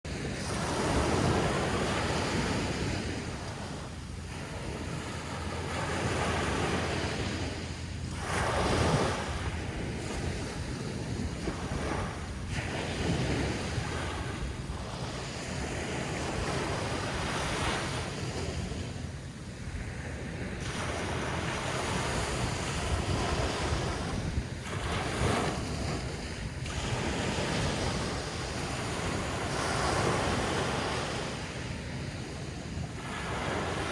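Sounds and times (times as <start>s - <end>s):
wind rumbling on microphone: 0.1s - 33.9s.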